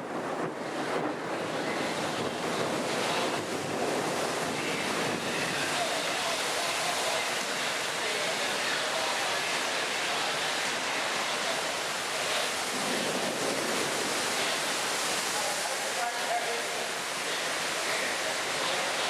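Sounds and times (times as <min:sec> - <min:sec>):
heavy rain: 0:00.0 - 0:19.0
storm wind: 0:00.0 - 0:19.0.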